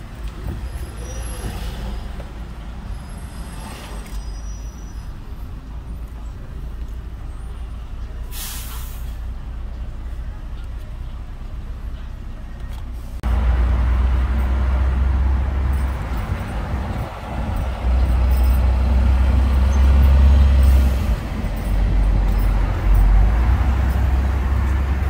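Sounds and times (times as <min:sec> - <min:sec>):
car engine and road rumble: 0:00.0 - 0:25.0
traffic noise: 0:00.0 - 0:25.0.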